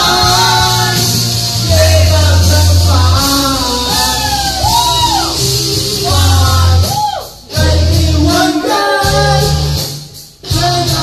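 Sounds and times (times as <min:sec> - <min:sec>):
man singing into a microphone: 0:00.0 - 0:09.9, 0:10.5 - 0:11.0
backing track with heavy bass: 0:00.0 - 0:11.0.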